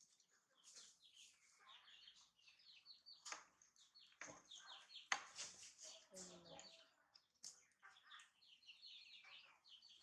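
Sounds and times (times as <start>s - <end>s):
small birds twittering: 0.0s - 10.0s.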